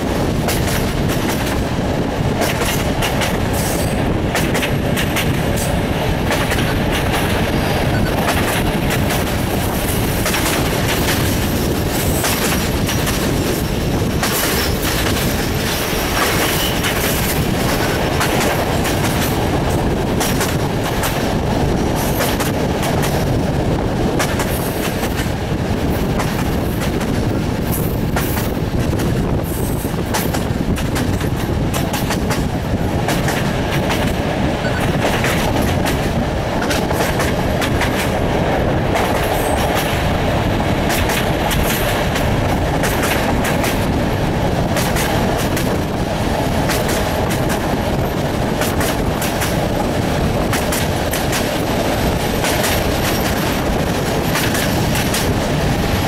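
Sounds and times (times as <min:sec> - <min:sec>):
train wheels rumbling on rails: 0:00.0 - 0:56.0
wheels clicking over rail joints: 0:02.3 - 0:56.0.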